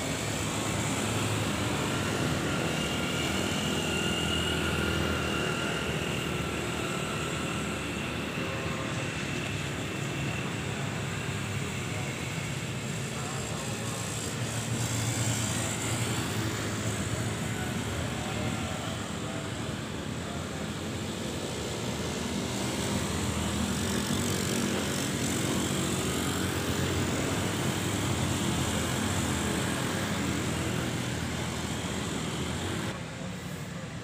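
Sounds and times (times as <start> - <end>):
motorcycle engines passing: 0.0 - 33.0
road traffic noise: 0.0 - 34.0.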